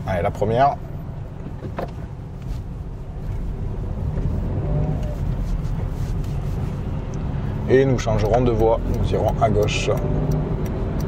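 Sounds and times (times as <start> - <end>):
car engine hum from inside cabin: 0.0 - 11.0.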